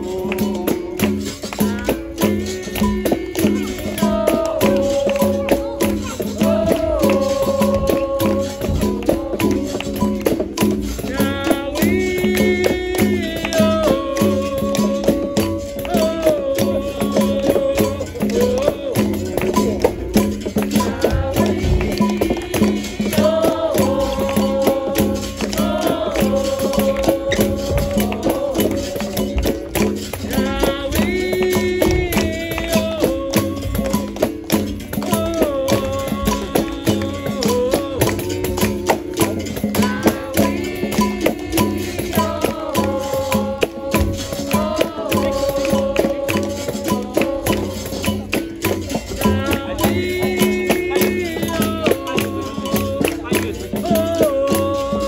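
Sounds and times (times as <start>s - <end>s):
berimbau: 0.0s - 55.0s
person singing: 0.0s - 55.0s
quick percussion hits: 0.0s - 55.0s
shaker rattle: 0.0s - 55.0s.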